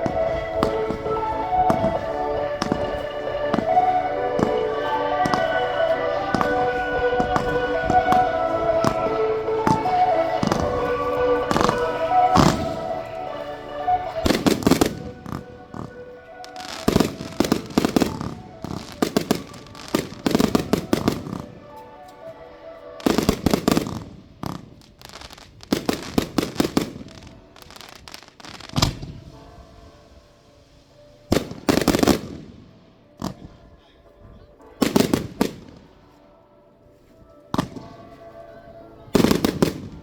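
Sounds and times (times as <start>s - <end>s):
fireworks bangs and crackling: 0.0s - 21.8s, 23.0s - 29.6s, 31.3s - 33.5s, 34.8s - 35.9s, 39.2s - 40.0s
music: 0.0s - 40.0s.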